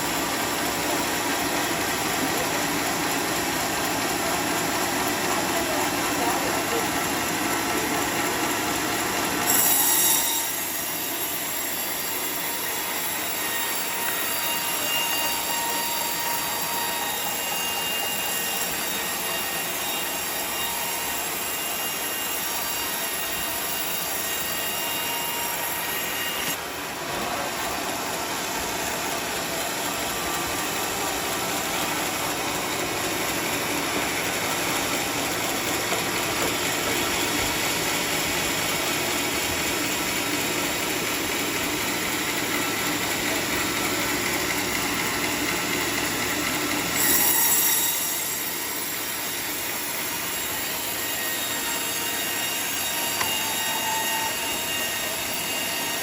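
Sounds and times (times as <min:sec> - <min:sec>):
saw cutting wood whining: 0:00.0 - 0:56.0.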